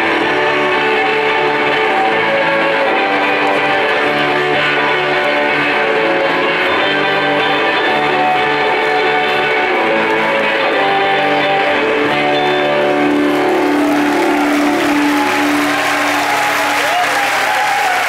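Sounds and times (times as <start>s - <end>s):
electric guitars ringing chords: 0.0s - 17.0s
crowd applause and cheering: 0.0s - 18.0s.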